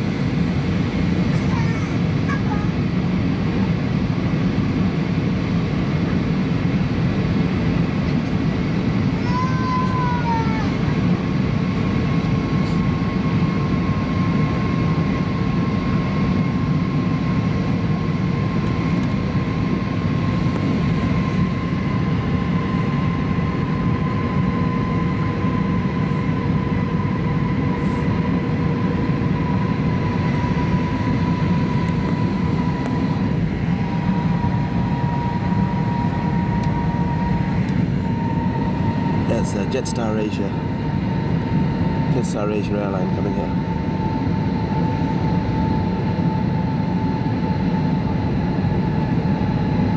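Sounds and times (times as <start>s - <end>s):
airplane cabin rumble: 0.0s - 49.9s
faint engine whine: 0.0s - 49.9s.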